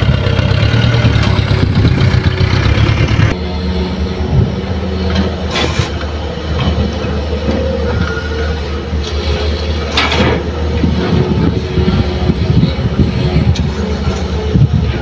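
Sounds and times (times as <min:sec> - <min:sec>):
heavy diesel machinery droning: 0:00.0 - 0:15.0.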